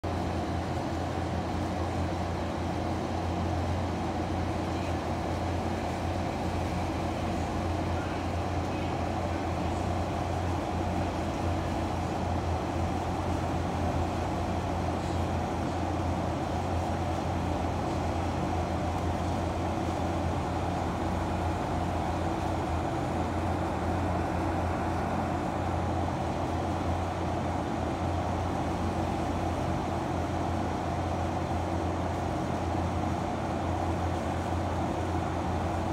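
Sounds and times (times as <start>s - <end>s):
low machine hum: 0.0s - 35.9s.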